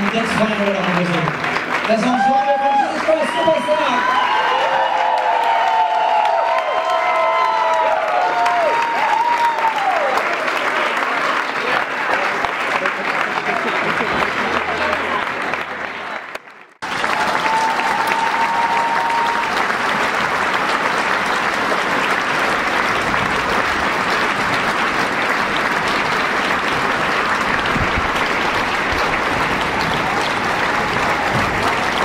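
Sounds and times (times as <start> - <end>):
audience applauding: 0.0 - 32.0.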